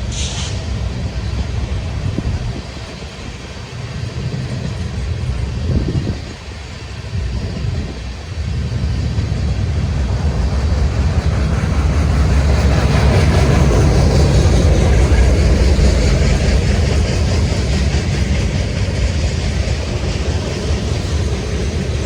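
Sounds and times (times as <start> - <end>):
train passing on tracks: 0.0 - 22.0.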